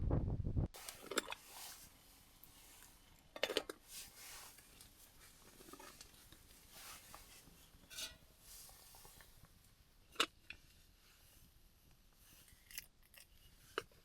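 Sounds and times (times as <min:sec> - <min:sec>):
soft handling rustles: 0:00.8 - 0:12.7.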